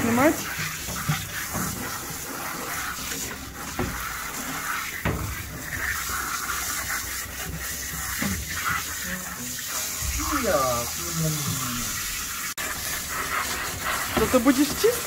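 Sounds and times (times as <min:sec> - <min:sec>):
hose nozzle spraying: 0:00.0 - 0:15.0.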